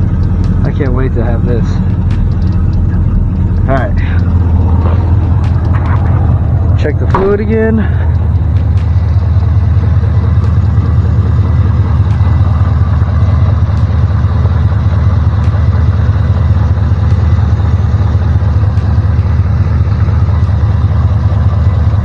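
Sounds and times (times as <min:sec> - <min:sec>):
car engine idling: 0:00.0 - 0:22.0
faint engine ticks: 0:00.0 - 0:22.0.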